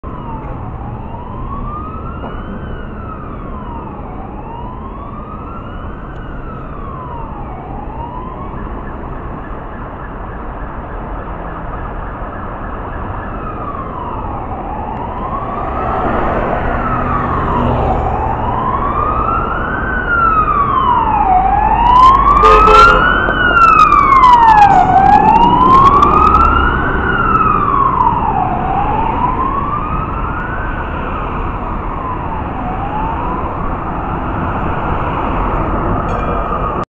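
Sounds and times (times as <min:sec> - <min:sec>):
fire truck siren wailing: 0:00.0 - 0:36.9
road traffic noise: 0:00.0 - 0:36.9.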